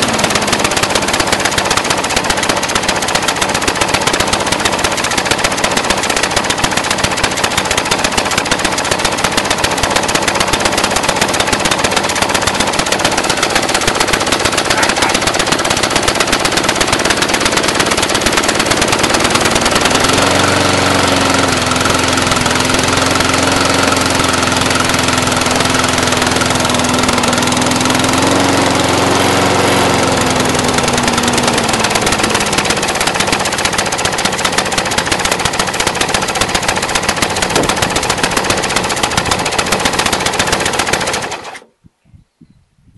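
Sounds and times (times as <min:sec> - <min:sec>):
lawn mower engine idling rough: 0:00.0 - 0:41.7.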